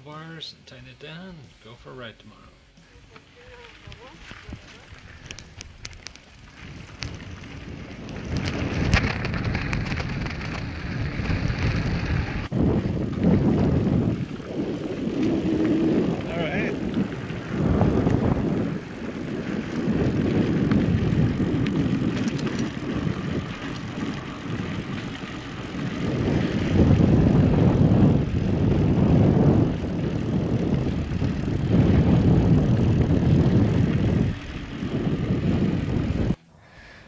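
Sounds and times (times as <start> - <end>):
bike tyres rumbling on dirt: 3.3 - 36.4.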